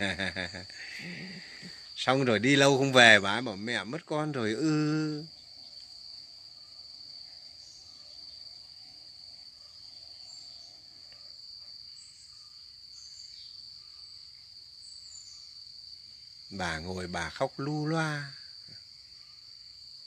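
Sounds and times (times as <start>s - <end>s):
high-pitched insect drone: 0.0s - 11.2s, 11.8s - 20.0s.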